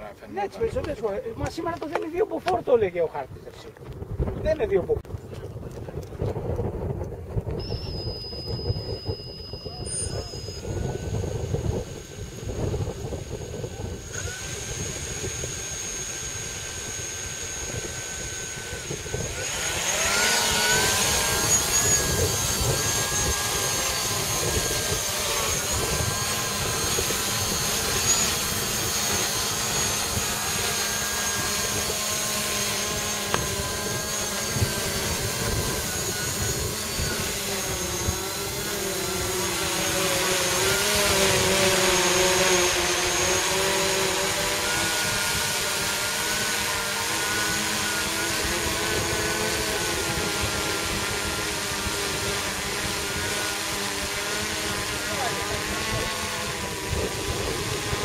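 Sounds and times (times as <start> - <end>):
drone propellers buzzing: 0.0 - 58.0.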